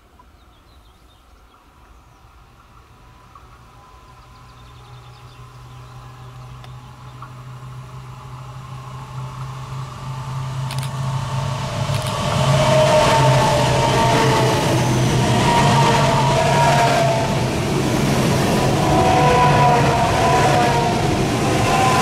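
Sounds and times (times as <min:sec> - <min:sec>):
train approaching: 0:00.0 - 0:22.0
low hum: 0:02.2 - 0:22.0.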